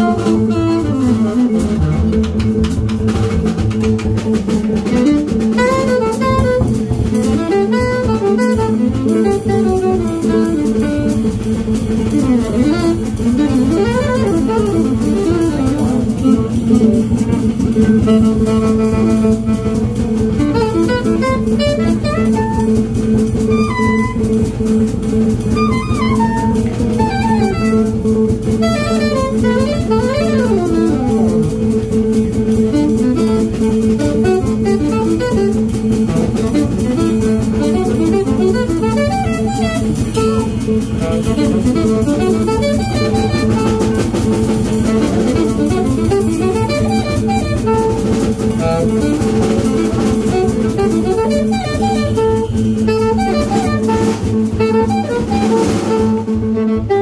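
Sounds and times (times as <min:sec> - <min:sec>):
guitar: 0:00.0 - 0:56.6
double bass: 0:00.0 - 0:57.0
drum kit: 0:00.0 - 0:57.0
saxophone: 0:00.0 - 0:57.0.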